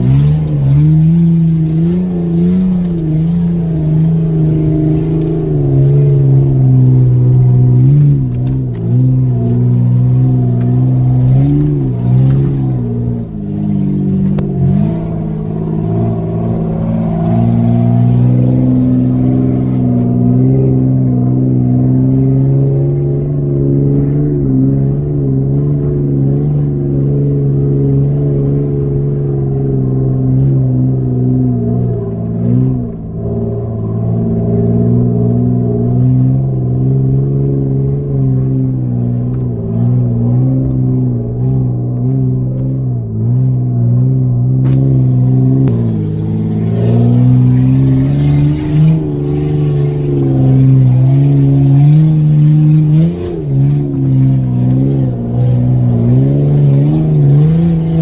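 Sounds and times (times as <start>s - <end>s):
vehicle engine running at low revs: 0.0s - 58.0s.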